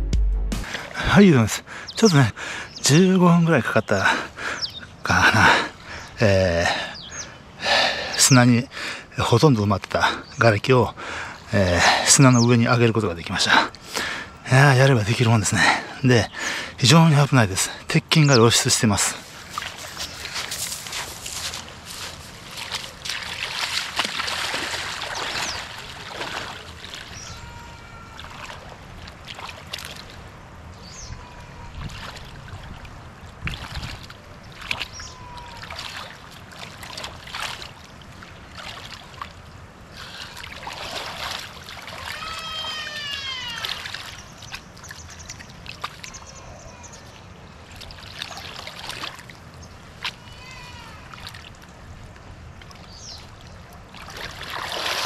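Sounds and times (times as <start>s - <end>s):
water splashing and sloshing: 10.9s - 55.0s.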